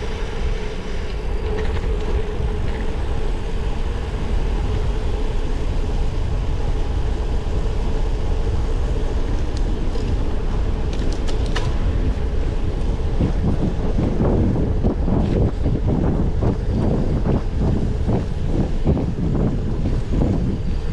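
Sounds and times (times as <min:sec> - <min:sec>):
steady hum: 0:00.0 - 0:20.9
wind buffeting microphone: 0:00.0 - 0:20.9.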